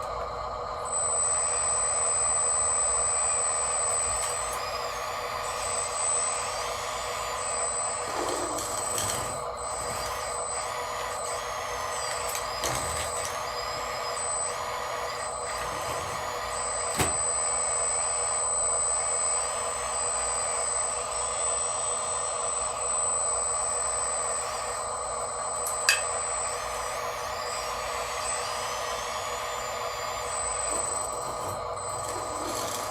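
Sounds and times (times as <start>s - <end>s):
machine motor whine: 0.0s - 32.9s.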